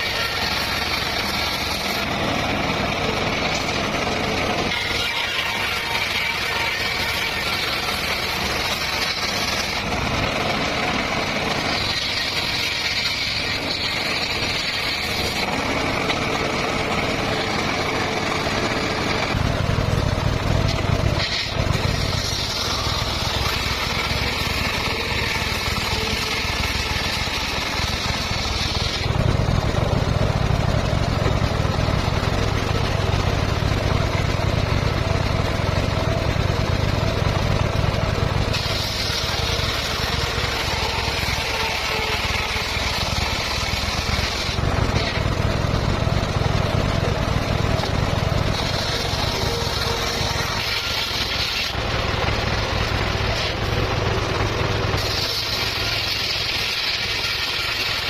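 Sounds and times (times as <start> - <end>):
circular saw cutting bamboo: 0.0 - 58.0.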